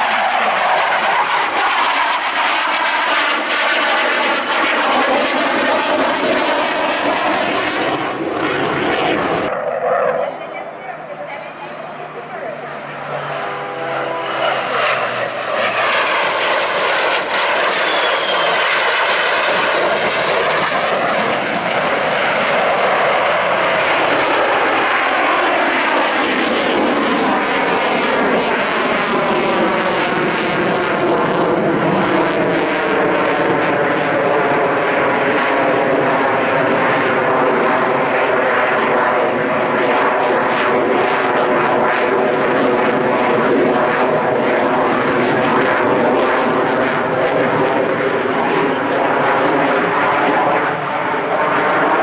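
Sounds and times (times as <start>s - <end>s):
jet engines roaring past: 0.0s - 52.0s.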